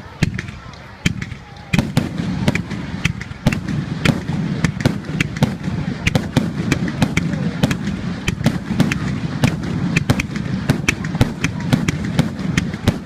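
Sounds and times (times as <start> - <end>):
distant fireworks bursts: 0.0 - 13.0
fireworks bangs and cracks: 0.0 - 13.0.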